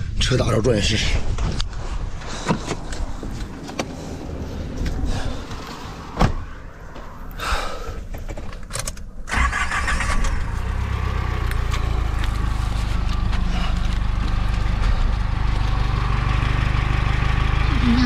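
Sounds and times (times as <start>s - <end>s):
car engine starting and idling: 2.1s - 18.0s.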